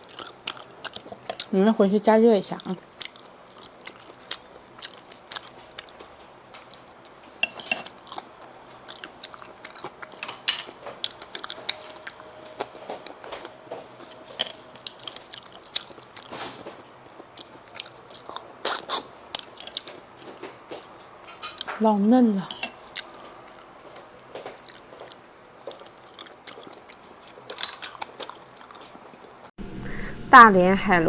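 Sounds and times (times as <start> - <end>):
person chewing shellfish: 0.0 - 1.6, 2.5 - 21.8, 22.5 - 29.5.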